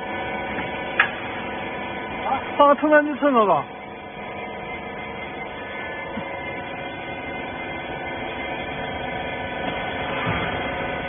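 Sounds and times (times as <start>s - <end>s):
hydraulic pump motor humming: 0.0s - 11.0s.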